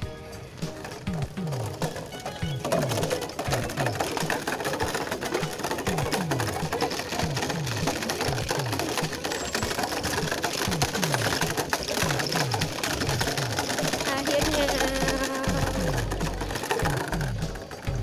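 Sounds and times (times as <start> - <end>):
bicycle rattling over cobblestones: 0.0 - 18.0.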